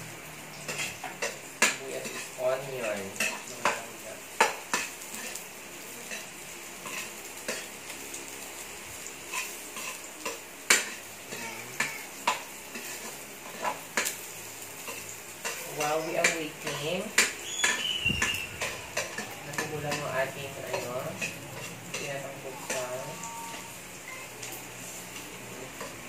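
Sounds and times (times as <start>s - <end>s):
garlic and onions sizzling in oil: 0.0s - 26.0s.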